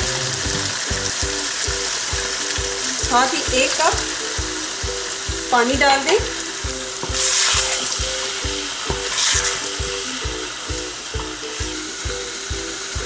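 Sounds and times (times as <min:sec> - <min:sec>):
curry sizzling in a pan: 0:00.0 - 0:13.0
music with a steady beat: 0:00.0 - 0:13.0
water hissing on hot pan: 0:00.0 - 0:13.0.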